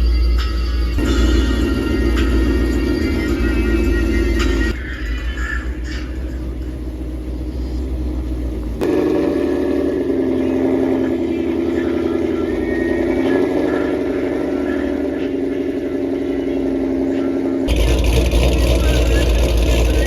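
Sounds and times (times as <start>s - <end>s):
bass-heavy sound: 0.0s - 20.0s
car engine exhaust drone: 0.0s - 20.0s.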